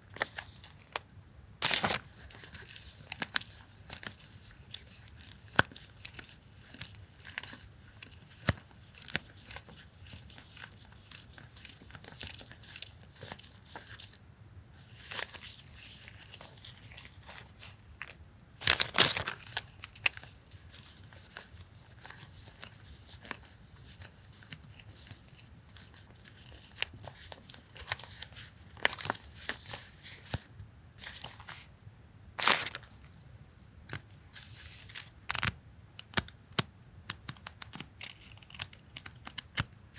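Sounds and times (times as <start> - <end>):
paper rustling and crinkling: 1.6 - 14.2, 14.8 - 31.7, 32.4 - 33.0, 37.5 - 39.7.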